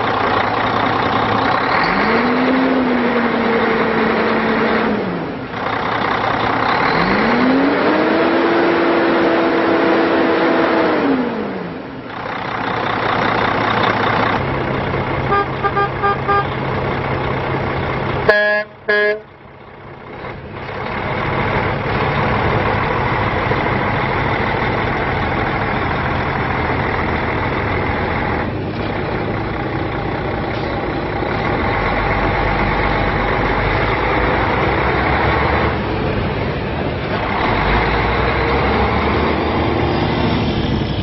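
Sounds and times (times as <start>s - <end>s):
diesel truck engine driving past: 0.0s - 41.0s.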